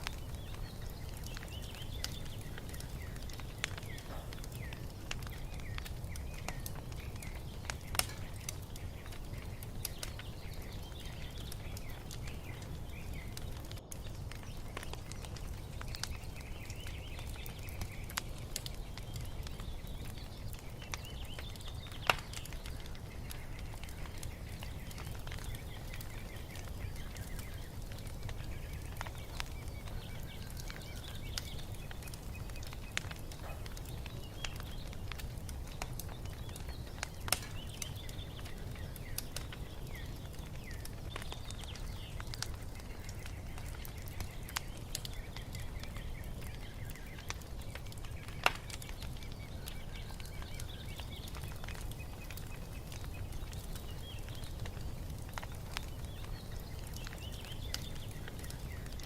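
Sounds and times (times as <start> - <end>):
small birds chirping: 0.0 - 59.0
wood fire crackling: 0.0 - 59.0.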